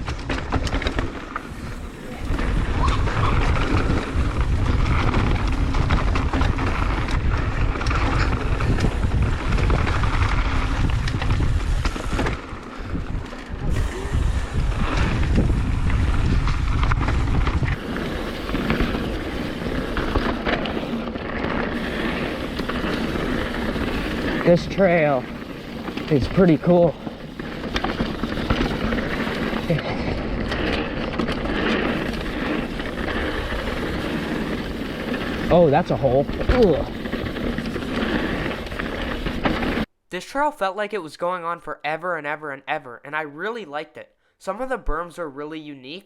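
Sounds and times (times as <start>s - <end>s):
bike rattles and knocks: 0.0s - 39.9s
tyres on dirt: 0.0s - 39.9s
wind buffeting microphone: 1.4s - 39.3s.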